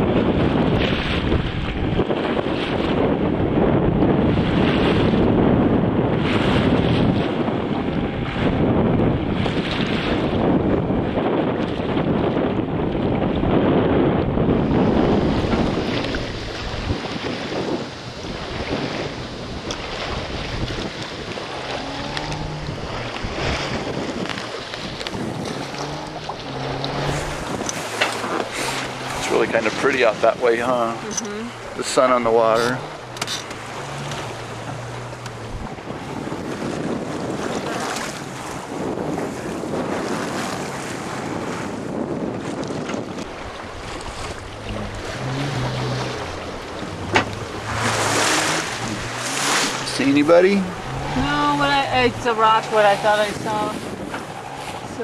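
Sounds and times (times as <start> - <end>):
choppy water splashing: 0.0 - 55.0
wind buffeting microphone: 0.0 - 55.0.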